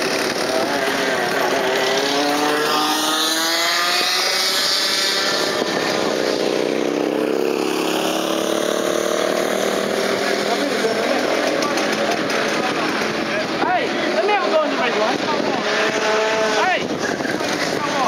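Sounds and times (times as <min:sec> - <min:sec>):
go-kart engines passing: 0:00.0 - 0:18.0.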